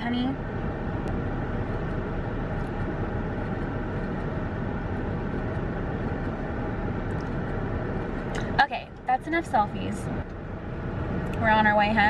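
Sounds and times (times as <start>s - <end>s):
car interior hum and hiss: 0.0s - 12.0s.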